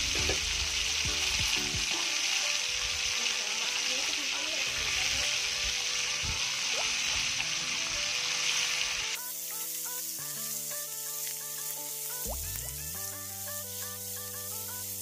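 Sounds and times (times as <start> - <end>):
background music: 0.0 - 15.0
fish sizzling in oil: 0.0 - 15.0.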